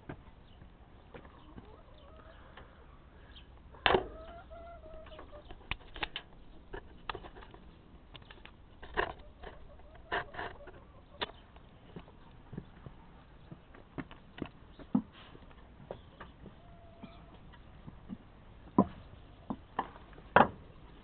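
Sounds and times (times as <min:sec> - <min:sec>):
hens clucking: 0:00.6 - 0:21.0.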